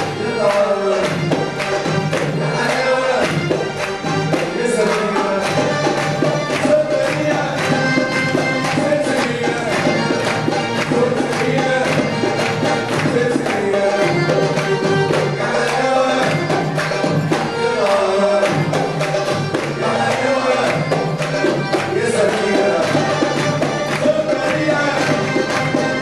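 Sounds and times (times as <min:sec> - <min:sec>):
accordion: 0:00.0 - 0:26.0
hand drum rhythm: 0:00.0 - 0:26.0
keyboard melody: 0:00.0 - 0:26.0.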